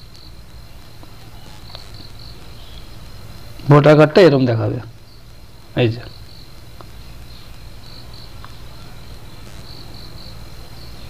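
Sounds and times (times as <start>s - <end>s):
crickets chirping: 0.0s - 11.0s
low electrical hum: 0.0s - 11.0s.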